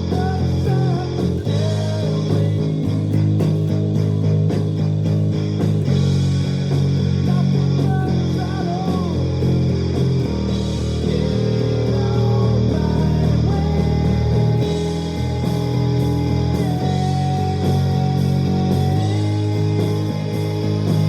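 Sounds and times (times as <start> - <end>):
electric bass rock playing: 0.0 - 21.0.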